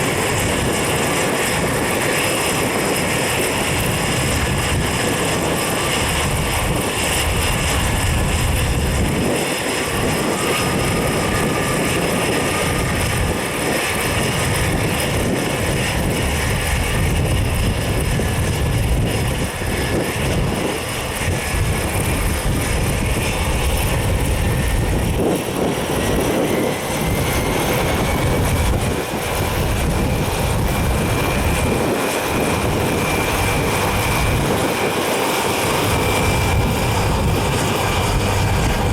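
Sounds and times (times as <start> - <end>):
turboprop engine whine: 0.0 - 38.9
wind buffeting microphone: 0.0 - 38.9.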